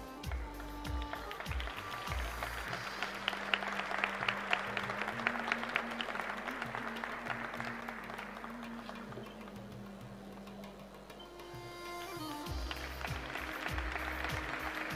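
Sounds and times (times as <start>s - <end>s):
audience applauding: 0.0s - 10.7s, 12.5s - 14.9s.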